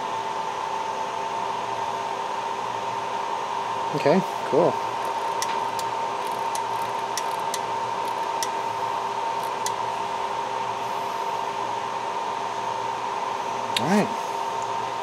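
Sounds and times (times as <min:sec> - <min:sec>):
fan whirring: 0:00.9 - 0:15.0.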